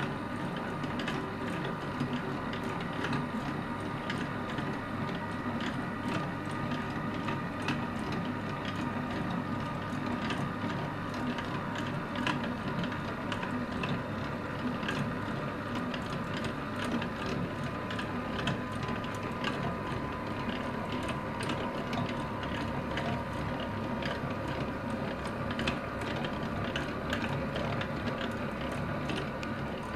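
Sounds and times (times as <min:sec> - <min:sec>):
mixer motor humming: 0:00.0 - 0:29.9.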